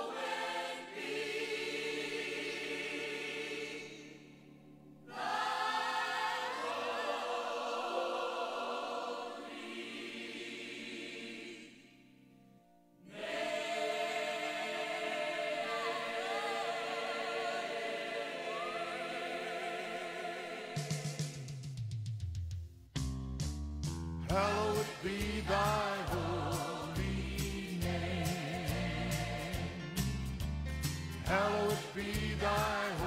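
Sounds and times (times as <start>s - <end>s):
choir singing held chords: 0.0s - 12.3s, 13.0s - 21.8s, 24.3s - 30.0s, 31.2s - 33.0s.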